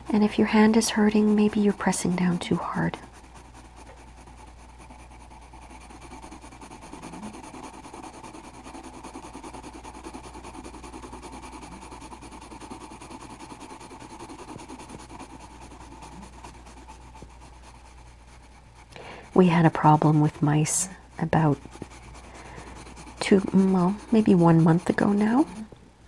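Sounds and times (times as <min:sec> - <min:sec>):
colored pencil shading on paper: 0:00.0 - 0:25.7.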